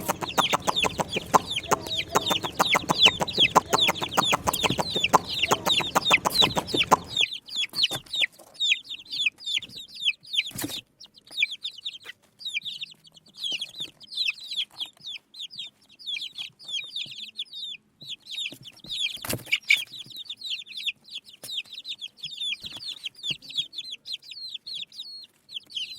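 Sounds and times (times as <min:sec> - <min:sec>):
baby chicks peeping: 0:00.0 - 0:25.9.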